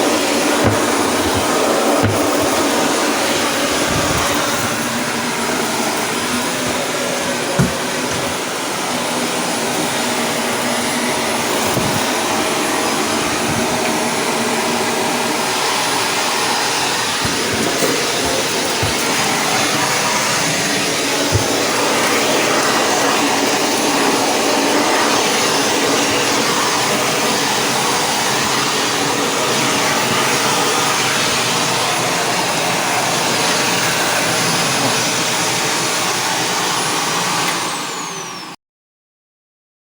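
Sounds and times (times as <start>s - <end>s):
vacuum cleaner running: 0.0s - 38.6s.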